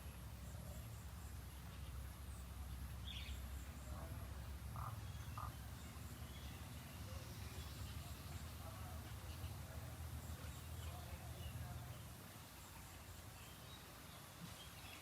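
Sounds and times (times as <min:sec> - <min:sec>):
bird chirp: 0:00.0 - 0:15.0.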